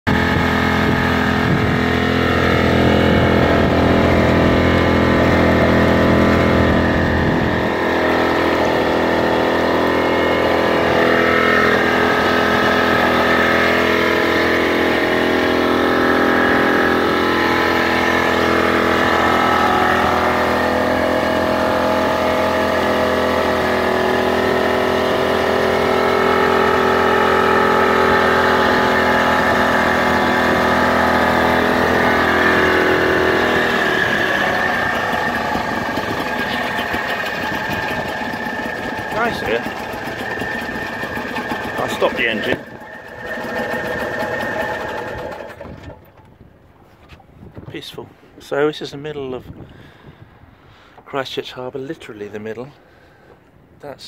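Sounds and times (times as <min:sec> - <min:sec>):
boat engine droning: 0:00.1 - 0:47.3.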